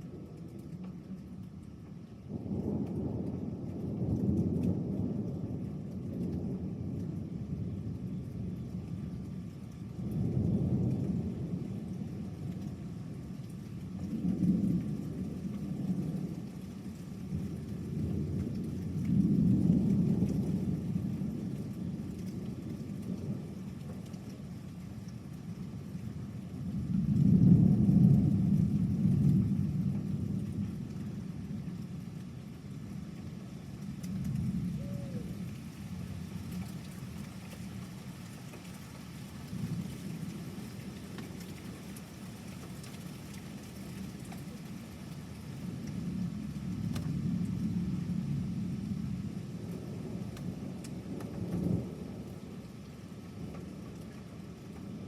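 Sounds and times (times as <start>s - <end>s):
rain hiss: 0.0s - 55.0s
thunder rumbling: 0.0s - 55.0s.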